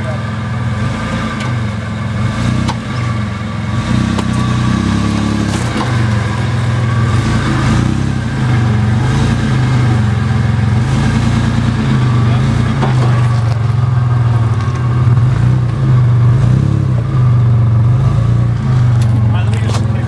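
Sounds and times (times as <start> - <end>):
engine running at low revs: 0.0 - 20.0.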